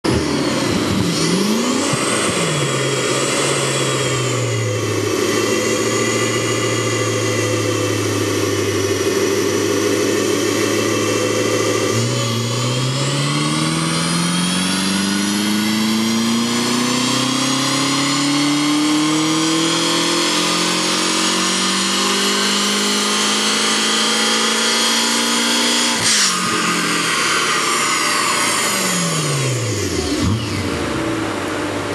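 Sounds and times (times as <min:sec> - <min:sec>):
car engine revving on dyno: 0:00.0 - 0:31.9.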